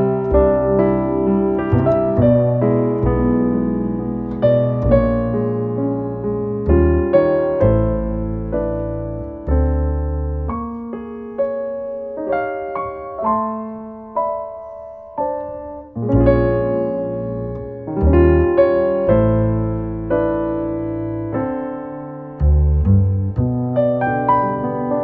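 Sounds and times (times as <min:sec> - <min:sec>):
jazz piano chords: 0:00.0 - 0:25.0.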